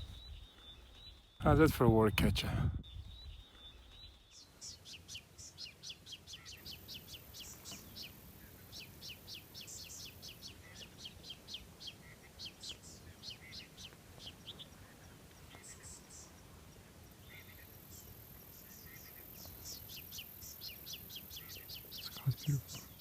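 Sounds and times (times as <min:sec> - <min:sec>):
songbird high chirps: 0:00.0 - 0:23.0.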